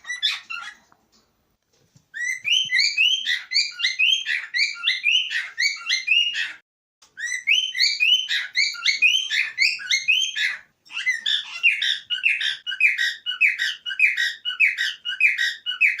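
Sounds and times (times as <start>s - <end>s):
cockatiel whistling: 0.0s - 0.8s, 2.2s - 16.0s.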